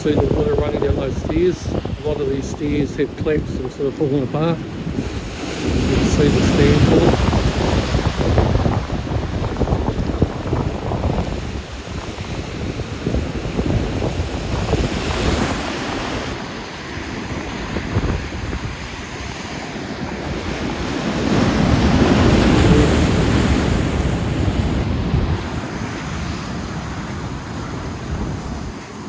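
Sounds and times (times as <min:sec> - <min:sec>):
heavy surf crashing: 0:00.0 - 0:29.0
wind buffeting microphone: 0:00.0 - 0:29.0.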